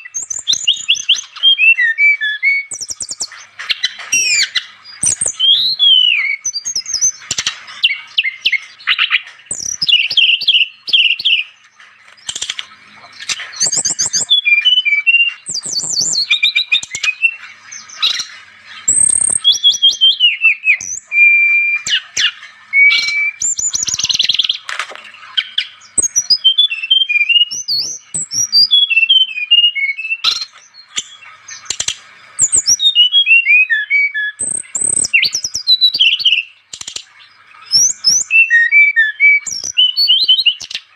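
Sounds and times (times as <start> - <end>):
flycatcher singing: 0.0 - 40.9.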